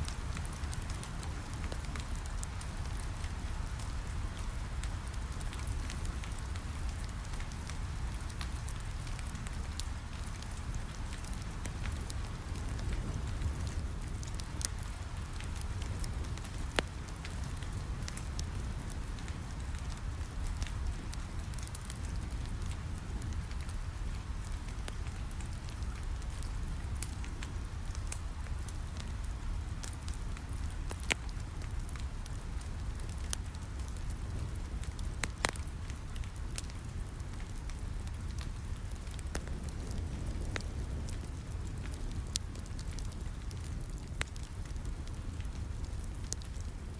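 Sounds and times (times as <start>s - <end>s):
rain on a window: 0.0s - 46.9s
wood fire crackling: 0.0s - 46.9s.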